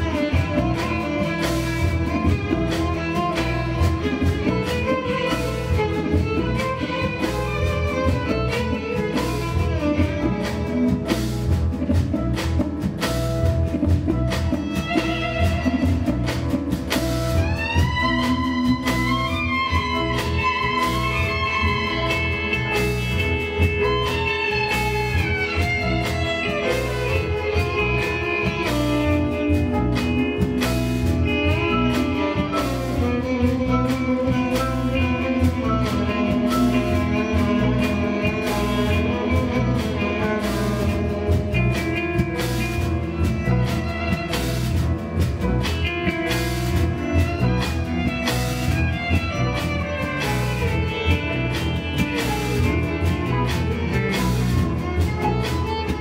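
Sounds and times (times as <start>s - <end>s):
guitar: 0.0s - 56.0s
percussive strikes: 0.0s - 56.0s.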